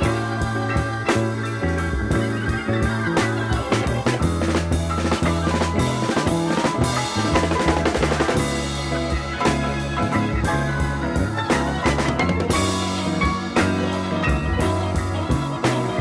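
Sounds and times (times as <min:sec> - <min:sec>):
drum kit beating: 0:00.0 - 0:16.0
rock music: 0:00.0 - 0:16.0.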